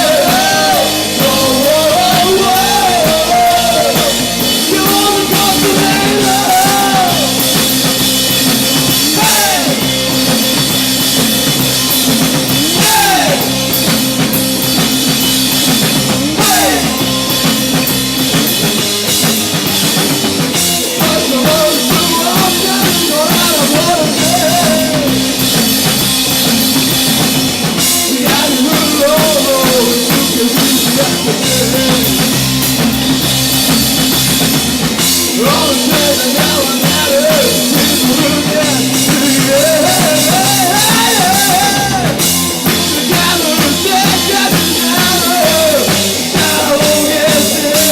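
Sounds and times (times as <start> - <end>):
drum kit with cymbals: 0.0 - 47.9
rock band playing live: 0.0 - 47.9.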